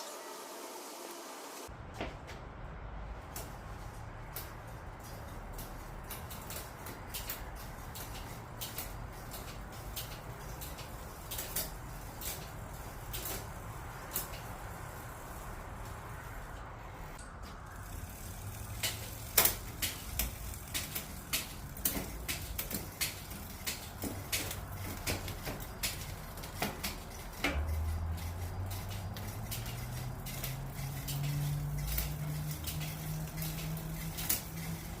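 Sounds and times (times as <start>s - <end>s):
bike wheel metallic clicks: 3.3s - 35.0s.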